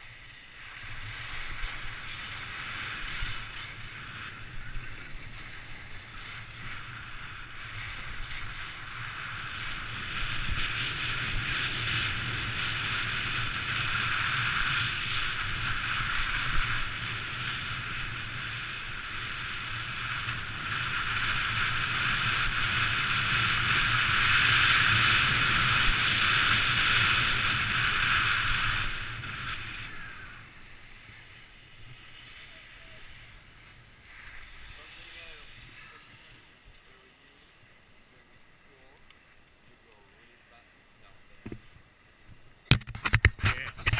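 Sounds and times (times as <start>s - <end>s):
skis scraping over snow: 0.0s - 39.0s.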